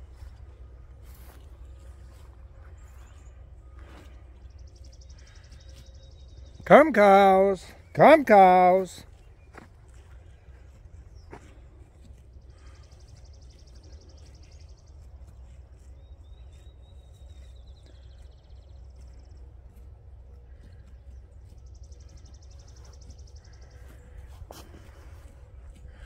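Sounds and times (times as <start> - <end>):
low steady rumble: 0.0 - 6.6, 9.0 - 26.0
songbirds trilling: 0.0 - 26.0.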